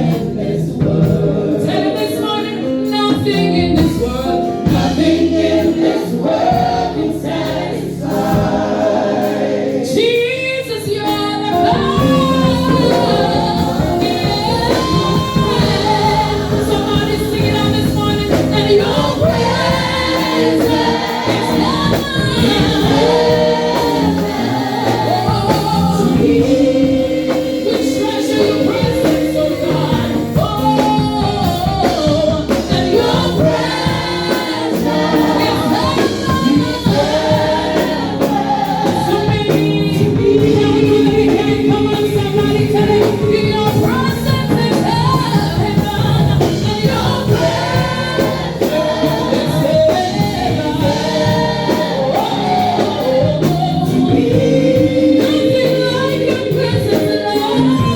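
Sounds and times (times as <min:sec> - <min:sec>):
congregation singing worship song: 0:00.0 - 0:57.9
live band playing: 0:00.0 - 0:57.9.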